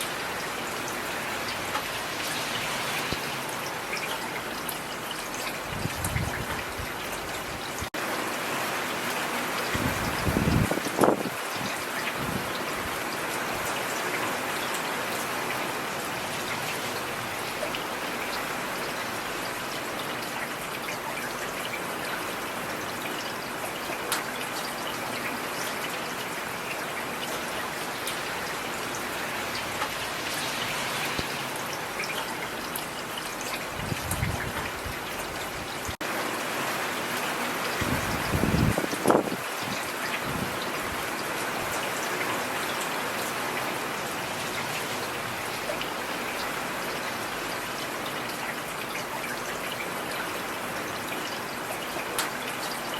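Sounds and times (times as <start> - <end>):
rain falling on street: 0.0 - 52.9.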